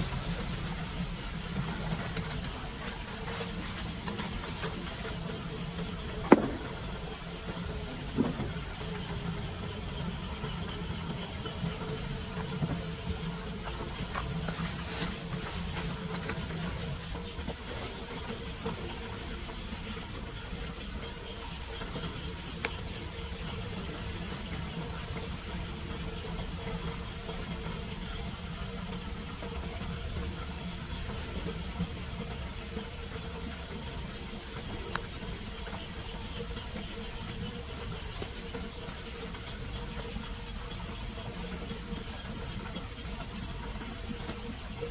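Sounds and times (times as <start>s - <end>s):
low steady hum: 0.0s - 44.9s
rain falling: 0.0s - 44.9s
water running over pavement: 0.0s - 44.9s.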